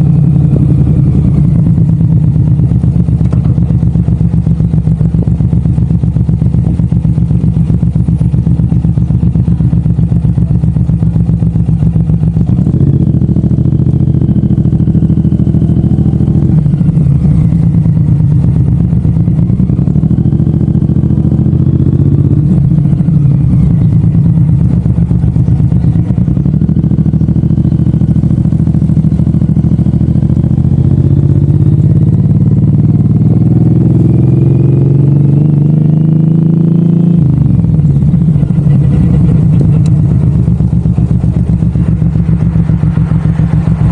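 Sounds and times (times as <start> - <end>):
motorcycle engine pulsing: 0.0 - 43.9.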